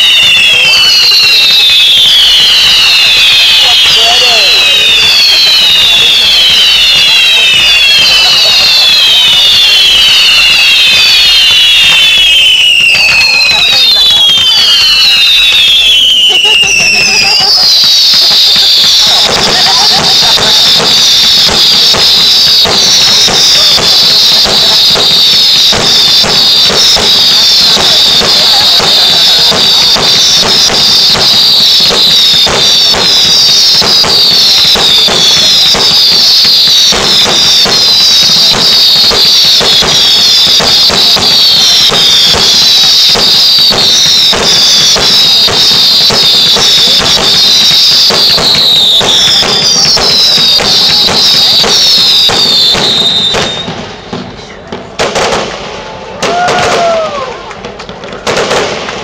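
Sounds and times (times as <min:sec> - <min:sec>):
falling firework whistles: 0:00.0 - 0:59.0
fireworks bangs and crackles: 0:00.0 - 0:59.0.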